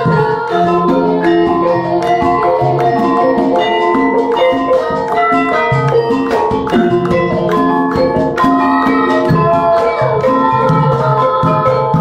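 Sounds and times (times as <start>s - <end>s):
drum strokes: 0.0s - 12.0s
gong-chimes and metallophones: 0.0s - 12.0s.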